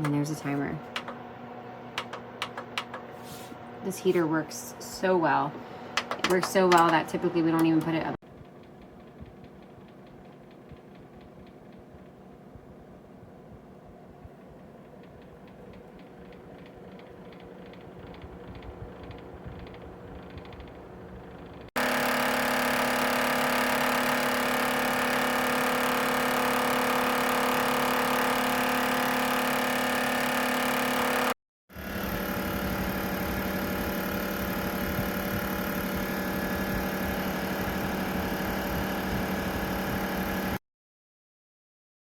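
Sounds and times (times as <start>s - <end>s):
heater fan humming: 0.0s - 40.6s.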